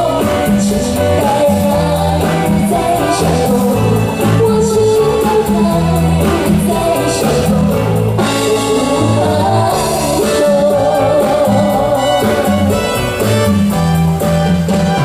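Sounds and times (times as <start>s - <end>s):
woman singing pop ballad: 0.0s - 13.5s
live band playing: 0.0s - 15.0s.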